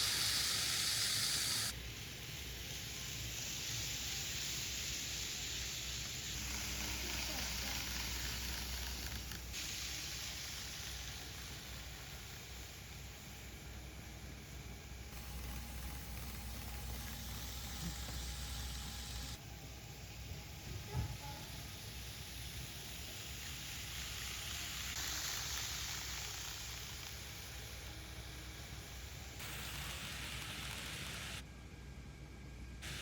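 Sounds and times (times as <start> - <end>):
model train rolling hiss: 0.0 - 31.4.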